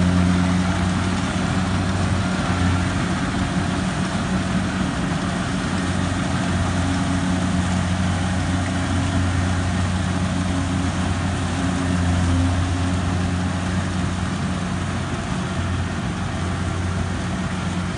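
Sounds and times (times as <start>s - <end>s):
combine harvester engine running: 0.0s - 17.9s.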